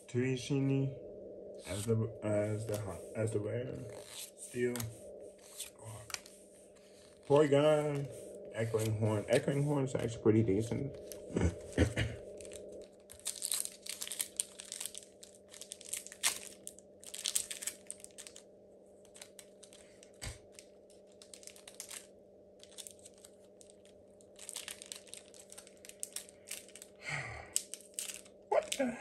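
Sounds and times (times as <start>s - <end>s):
faint steady hum: 0.0s - 29.0s
foil wrapper and cards crinkling: 2.5s - 3.0s, 3.9s - 9.7s, 11.0s - 18.4s, 19.0s - 29.0s.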